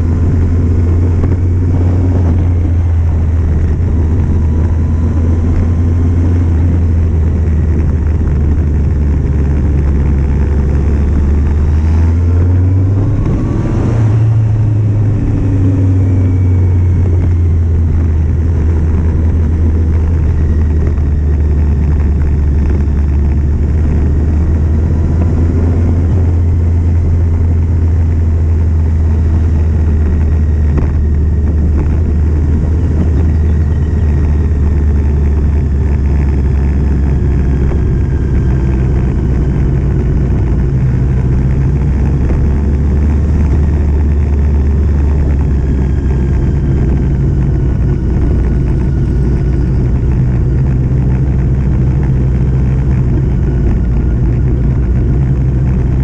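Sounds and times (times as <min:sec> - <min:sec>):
motorcycle engine running: 0:00.0 - 0:56.0
wind rumble: 0:00.0 - 0:56.0.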